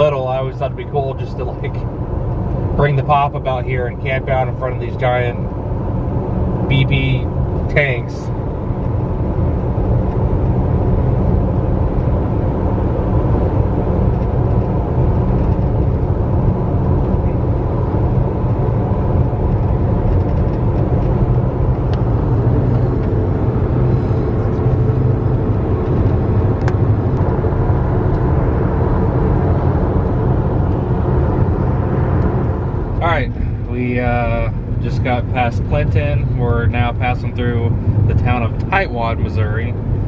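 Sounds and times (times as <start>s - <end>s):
car engine drone: 0.0s - 40.0s.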